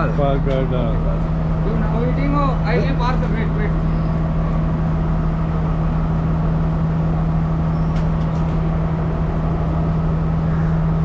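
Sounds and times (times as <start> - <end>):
diesel train engine humming: 0.0 - 11.0.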